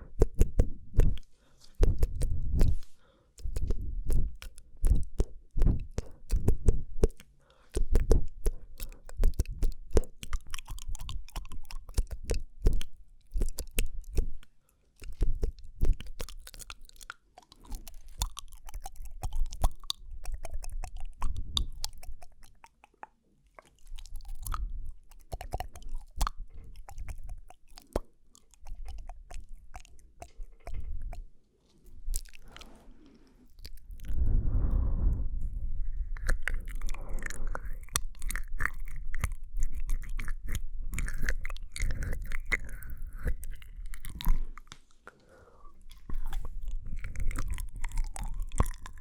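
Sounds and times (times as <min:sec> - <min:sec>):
wet mouth clicks and smacks: 0:00.0 - 0:49.0.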